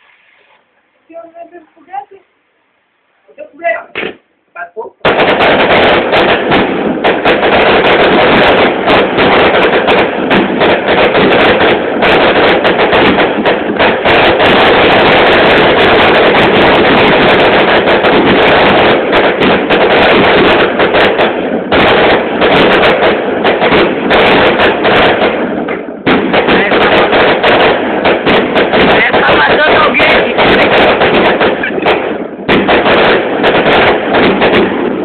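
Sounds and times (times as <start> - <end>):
firecrackers crackling: 0.0 - 35.0.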